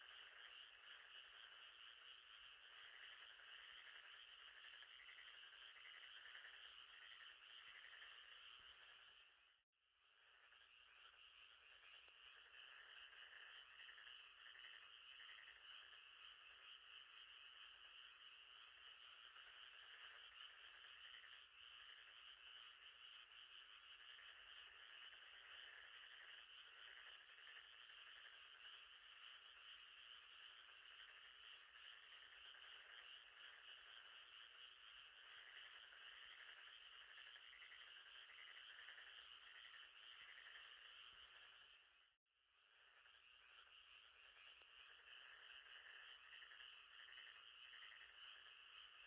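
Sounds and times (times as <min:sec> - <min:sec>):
frogs trilling: 0:00.0 - 0:49.0.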